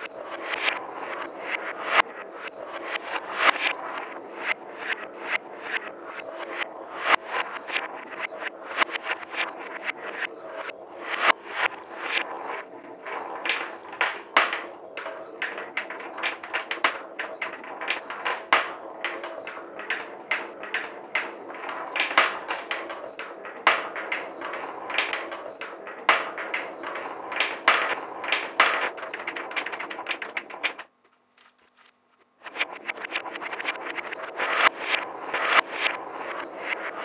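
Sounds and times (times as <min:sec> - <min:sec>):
balls clicking and clacking: 0:00.0 - 0:37.0
steel balls rolling on wooden track: 0:00.0 - 0:37.0.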